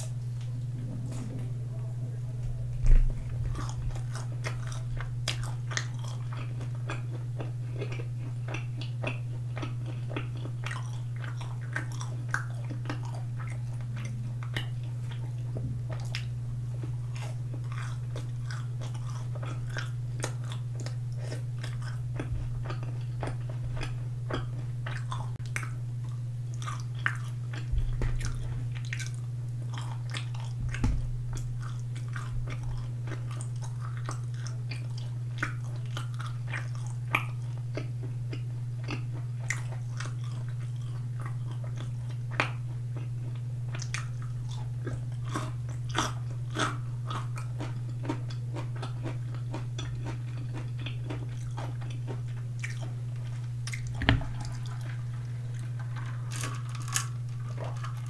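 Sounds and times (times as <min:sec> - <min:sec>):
low hum: 0:00.0 - 0:48.5, 0:49.2 - 0:58.0
chewing crunchy fried chicken: 0:02.8 - 0:58.0.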